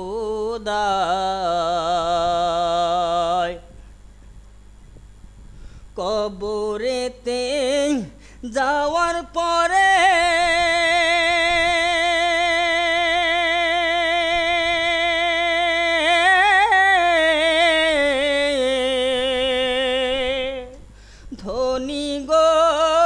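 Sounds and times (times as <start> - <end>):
person singing wordlessly: 0.0 - 3.7, 6.0 - 23.0.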